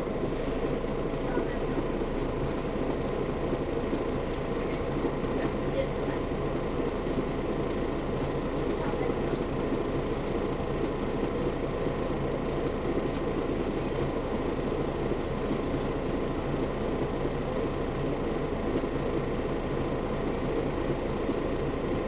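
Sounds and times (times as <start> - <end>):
bus engine hum: 0.0 - 22.0.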